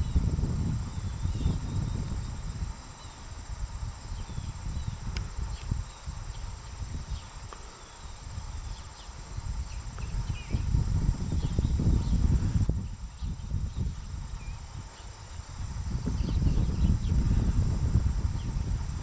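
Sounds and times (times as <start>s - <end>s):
high-pitched insect drone: 0.0s - 19.0s
wind rumble on microphone: 0.0s - 19.0s.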